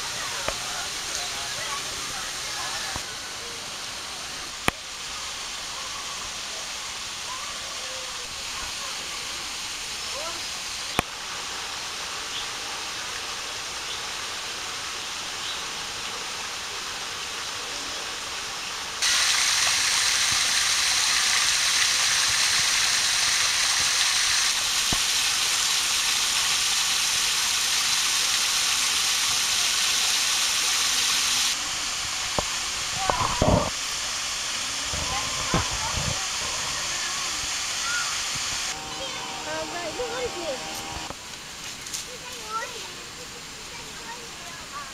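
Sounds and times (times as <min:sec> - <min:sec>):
waterfall splashing into pool: 0:00.0 - 0:44.9.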